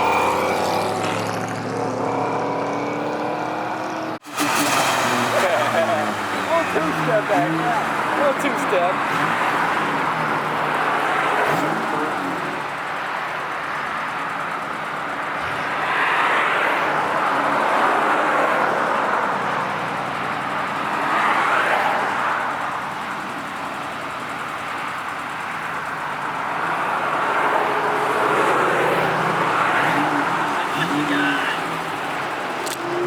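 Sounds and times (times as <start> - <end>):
car engines revving past: 0.0 - 33.0.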